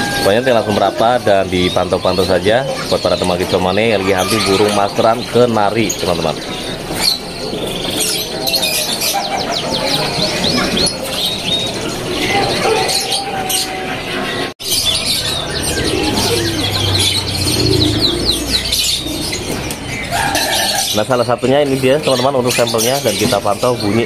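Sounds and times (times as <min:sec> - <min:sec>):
canaries singing with trills: 0:00.0 - 0:24.0.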